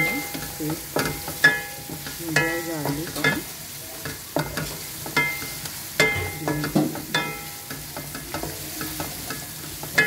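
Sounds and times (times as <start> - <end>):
food sizzling in a pan: 0.0 - 10.0
spatula knocking against pan: 0.0 - 10.0.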